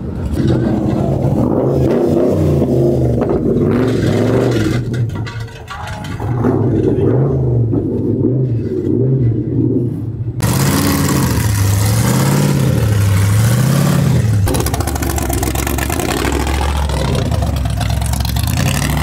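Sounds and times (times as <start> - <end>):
truck engines revving: 0.0 - 19.0.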